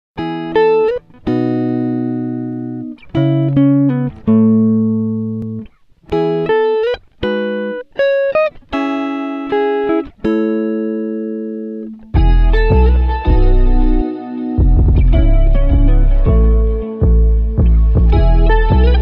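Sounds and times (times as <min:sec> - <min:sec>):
guitar playing slow ringing notes: 0:00.2 - 0:19.0.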